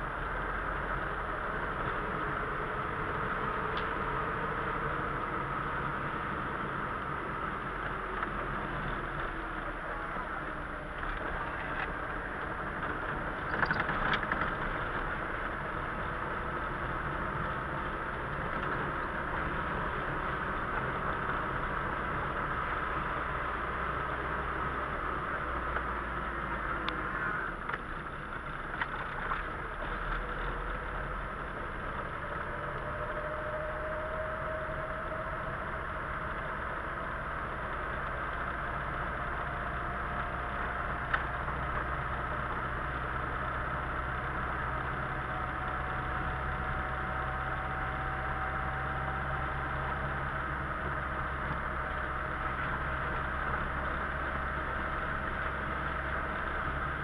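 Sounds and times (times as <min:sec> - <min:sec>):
car engine running: 0:00.0 - 0:57.0
tyres on wet road: 0:00.0 - 0:57.0.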